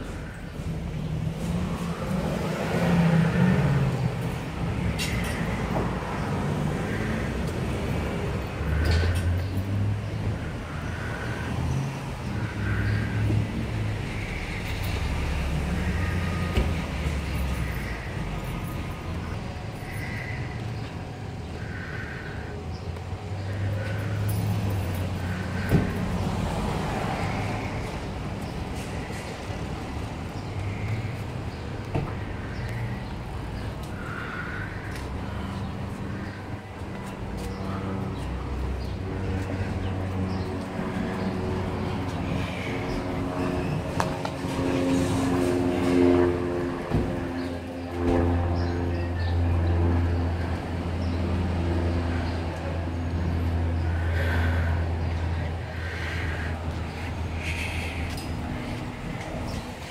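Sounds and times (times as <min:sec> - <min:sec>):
street traffic: 0:00.0 - 0:59.9
vehicle engine rumbling: 0:00.0 - 0:59.9.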